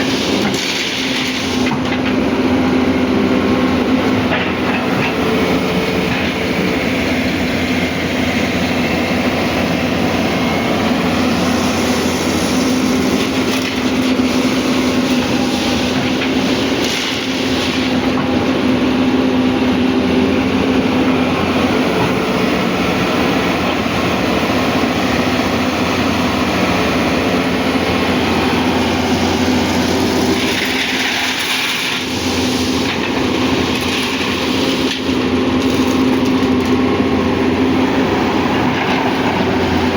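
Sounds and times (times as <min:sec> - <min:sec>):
excavator diesel engine humming: 0:00.0 - 0:39.9.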